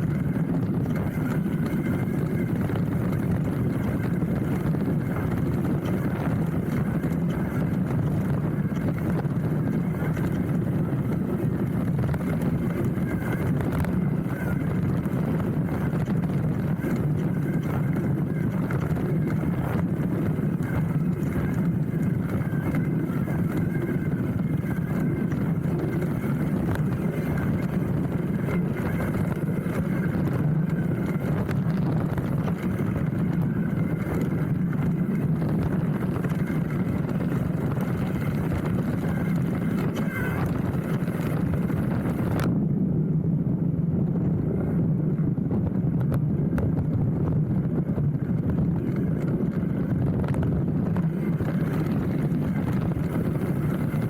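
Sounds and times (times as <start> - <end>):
bike rattling and knocking: 0.0 - 42.4, 46.0 - 54.0
bike tyres rumbling on dirt: 0.0 - 42.6, 43.9 - 54.0.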